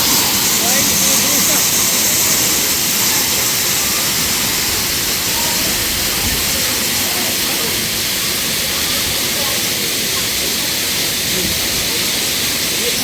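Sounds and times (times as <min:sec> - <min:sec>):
faint voices: 0:00.0 - 0:13.0
waterfall rushing: 0:00.0 - 0:13.0.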